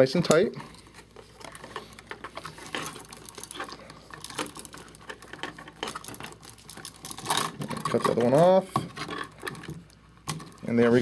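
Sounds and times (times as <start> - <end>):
wires twisted with pliers: 0.2 - 10.8.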